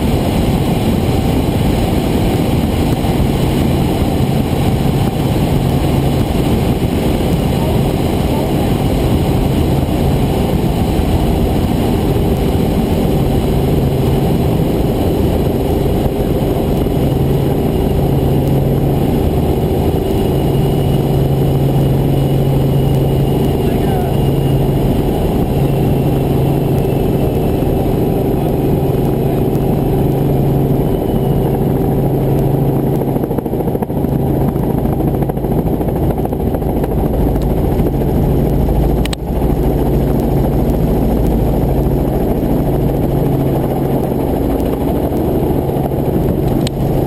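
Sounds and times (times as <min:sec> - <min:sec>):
helicopter engine and rotor: 0:00.0 - 0:47.0.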